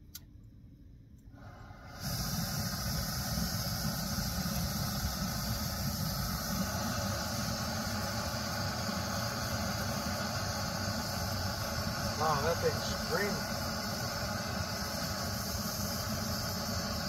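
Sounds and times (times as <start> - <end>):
gas stove burner hissing: 1.3 - 17.0.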